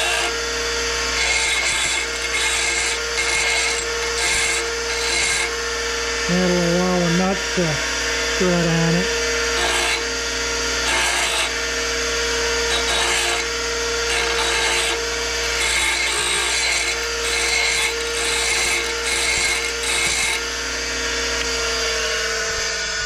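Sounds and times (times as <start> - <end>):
bench grinder humming: 0.0 - 23.0.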